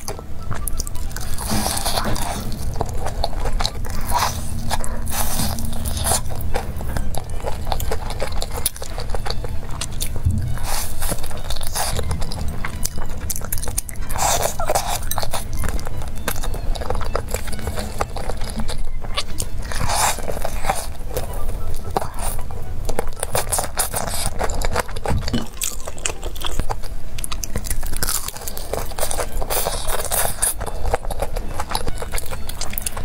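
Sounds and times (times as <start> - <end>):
crunching fried chicken: 0.0 - 33.0.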